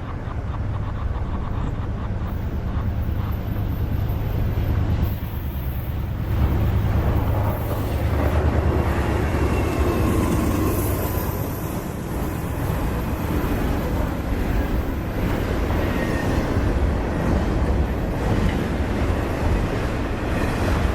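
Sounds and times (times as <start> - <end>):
freight train rumbling past: 0.0 - 20.9.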